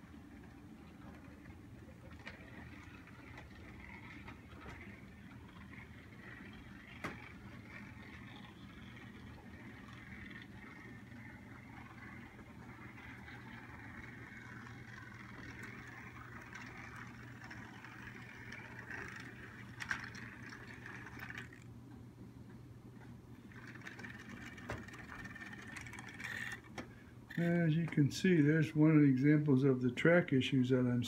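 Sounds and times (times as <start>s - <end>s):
model train motor whine: 0.0s - 21.7s, 23.4s - 27.9s
low hum: 0.0s - 31.0s.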